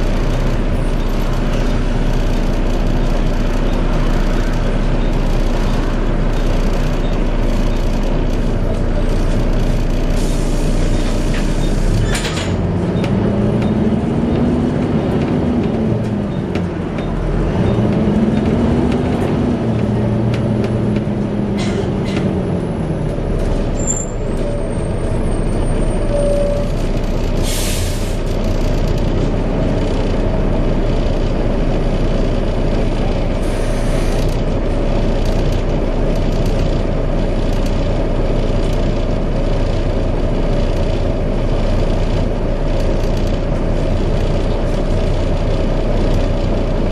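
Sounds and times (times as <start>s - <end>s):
bus engine running: 0.0s - 46.9s.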